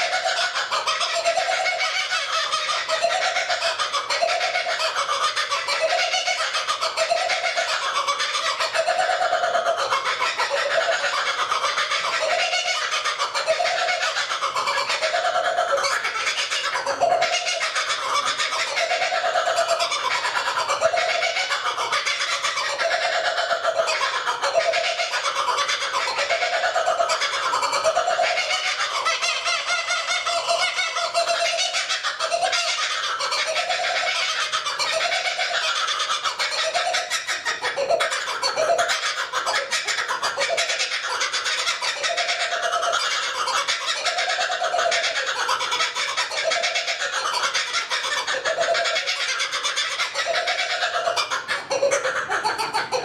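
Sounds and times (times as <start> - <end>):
chatter of high bird calls: 0.0 - 53.0.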